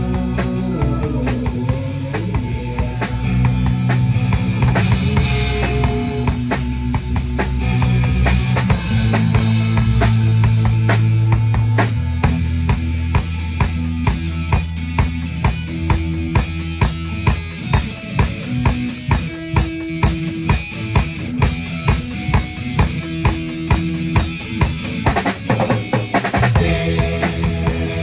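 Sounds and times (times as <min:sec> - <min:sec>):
drum kit beat: 0:00.0 - 0:28.0
rock band playing: 0:00.0 - 0:28.0.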